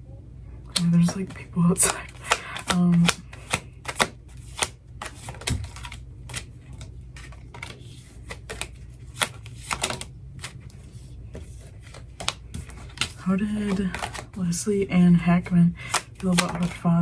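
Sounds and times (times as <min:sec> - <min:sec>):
cards being shuffled: 0:00.7 - 0:14.4, 0:15.4 - 0:17.0.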